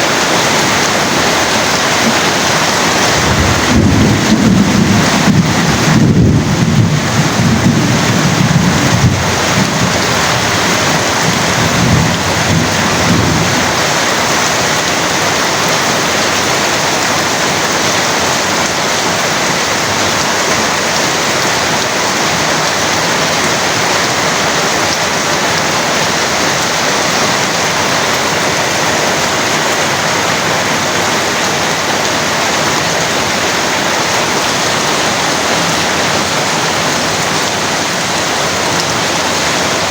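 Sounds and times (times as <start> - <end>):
heavy rain: 0.0 - 39.9
thunder rumbling: 0.1 - 39.9.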